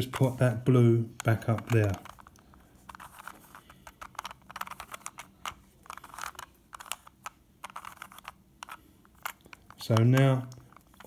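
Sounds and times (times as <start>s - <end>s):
puzzle cube clicking: 1.1s - 11.0s.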